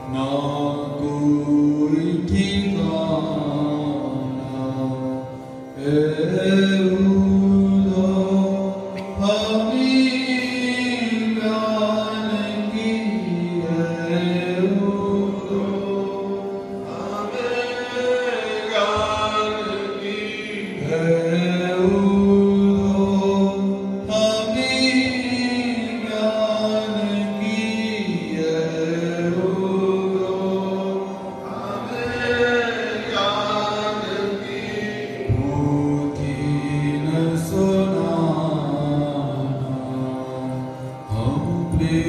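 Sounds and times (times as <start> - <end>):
person singing devotional song: 0.0 - 42.0.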